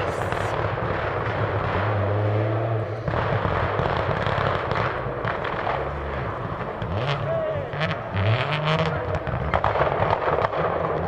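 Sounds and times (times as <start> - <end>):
exhaust pops and bangs: 0.0 - 11.0
rally car engine: 0.0 - 11.0.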